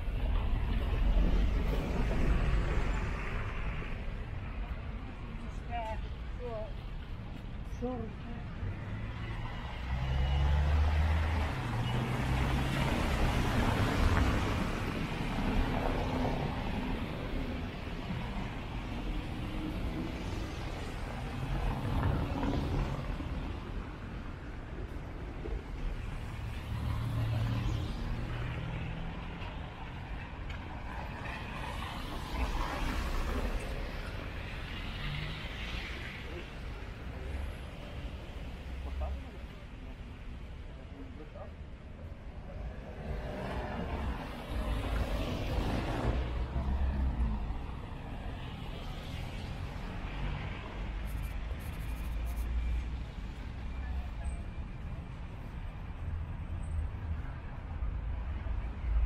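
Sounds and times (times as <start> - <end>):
tyres on wet road: 0.0 - 41.3, 41.9 - 59.0.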